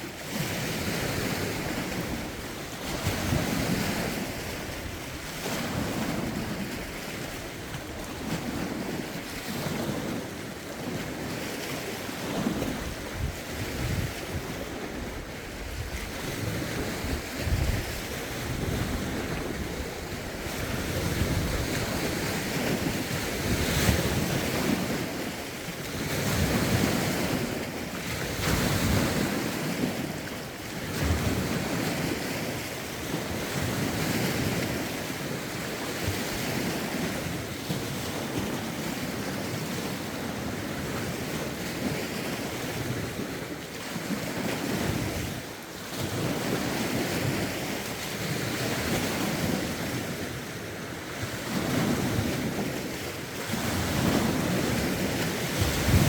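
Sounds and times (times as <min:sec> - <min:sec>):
lake waves lapping on shore: 0:00.0 - 0:56.0
wind rumbling on microphone: 0:00.2 - 0:56.0.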